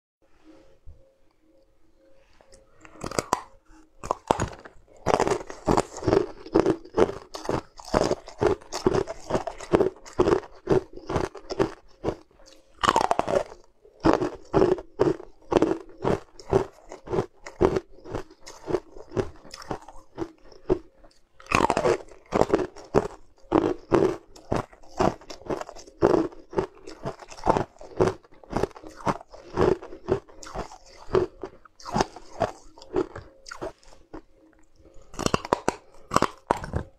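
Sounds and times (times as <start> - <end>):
ice crunched between teeth: 2.8 - 34.2, 35.0 - 36.9.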